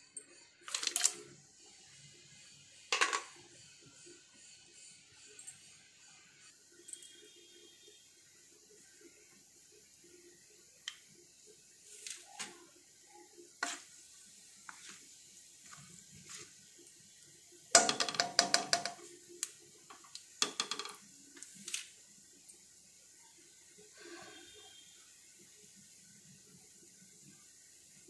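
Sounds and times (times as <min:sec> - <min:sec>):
spices sizzling in oil: 0:00.3 - 0:28.0.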